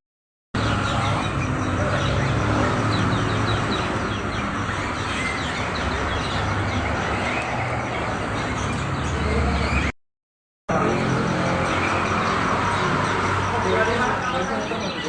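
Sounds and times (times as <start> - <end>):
small birds chirping: 0.6 - 10.0, 10.7 - 15.0.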